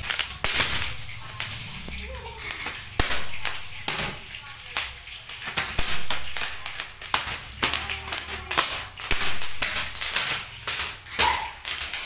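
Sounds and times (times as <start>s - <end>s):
bubble wrap popping: 0.0s - 12.0s.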